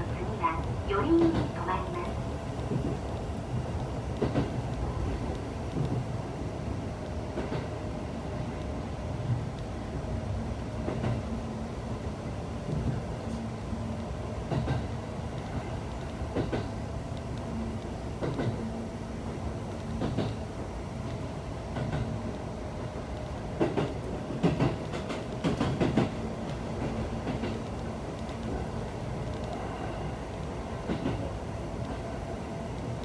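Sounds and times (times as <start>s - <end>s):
train rumble and hum: 0.0s - 33.0s.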